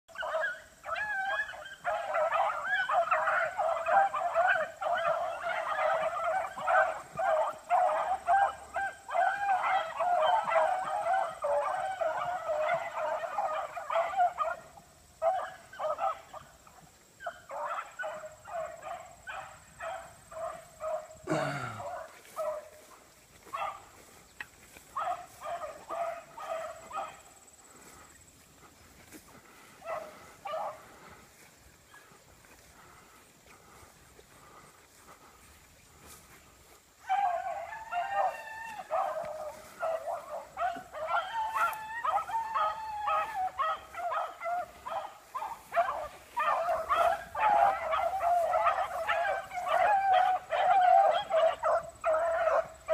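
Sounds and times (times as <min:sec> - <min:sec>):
hounds baying: 0:00.1 - 0:52.9.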